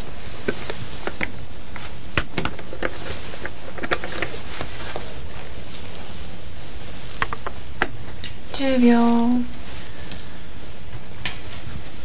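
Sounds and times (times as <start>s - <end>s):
tape hiss: 0.0s - 12.0s.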